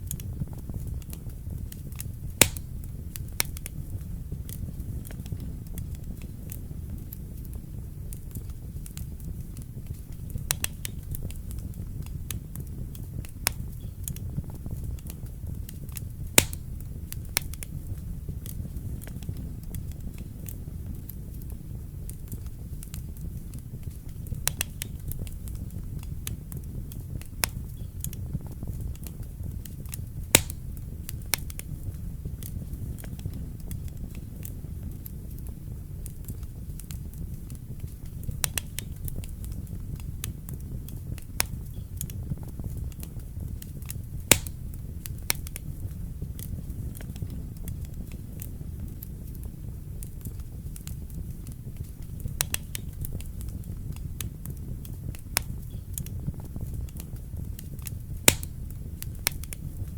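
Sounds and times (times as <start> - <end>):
fire crackles and pops: 0.0 - 59.9
low rumble of flames: 0.0 - 59.9.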